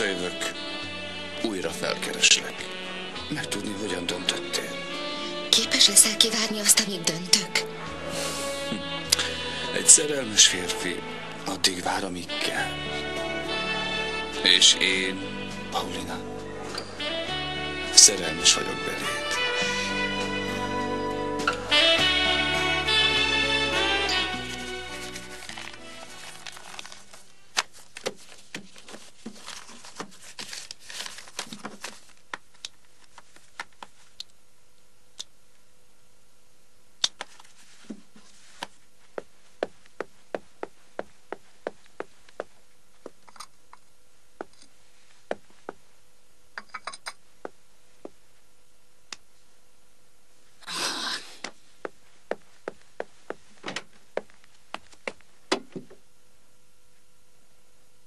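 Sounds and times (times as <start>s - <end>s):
faint steady hum: 2.5s - 58.0s.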